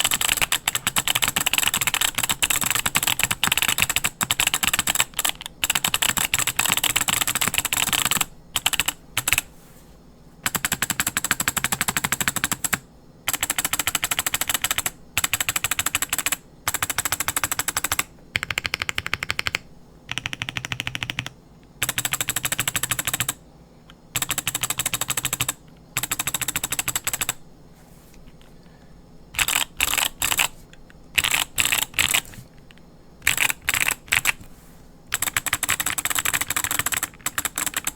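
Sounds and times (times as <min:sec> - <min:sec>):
fast typing on mechanical keyboard: 0:00.0 - 0:09.5, 0:10.5 - 0:23.4, 0:24.1 - 0:27.4, 0:29.4 - 0:30.6, 0:31.2 - 0:34.5, 0:35.1 - 0:37.9.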